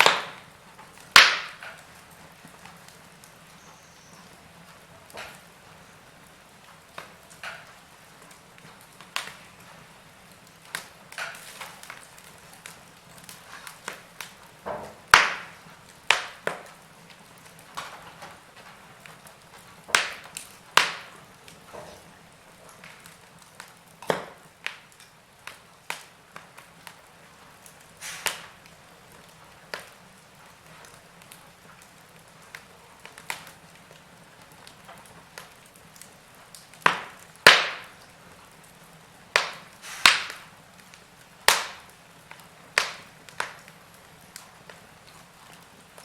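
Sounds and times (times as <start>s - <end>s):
log fire crackling and popping: 0.0s - 46.0s.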